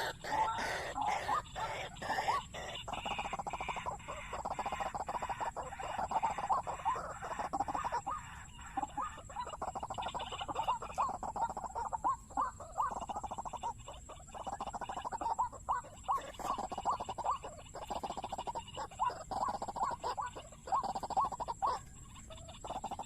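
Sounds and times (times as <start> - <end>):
waterhen calls: 0.0 - 23.0.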